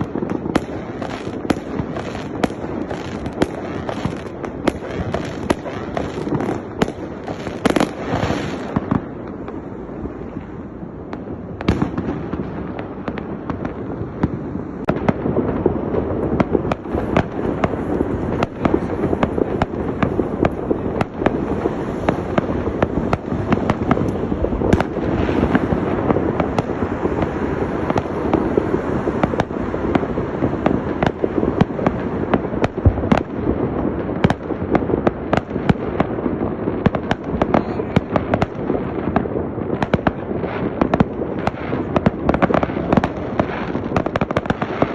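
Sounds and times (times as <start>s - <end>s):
fireworks bangs: 0.0s - 44.9s
fireworks crackling: 0.0s - 44.9s.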